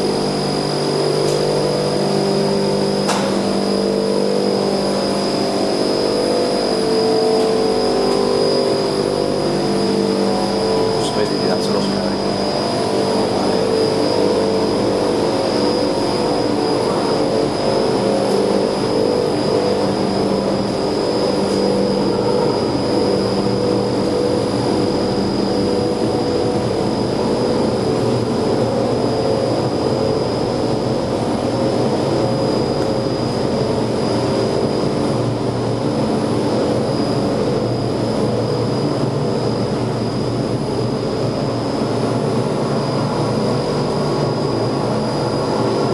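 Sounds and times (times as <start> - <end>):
heat pump drone: 0.0 - 45.9
high-pitched whine: 0.0 - 45.9.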